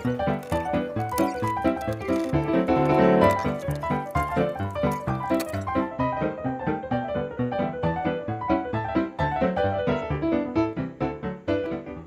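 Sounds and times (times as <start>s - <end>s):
piano playing steady notes: 0.0s - 12.0s.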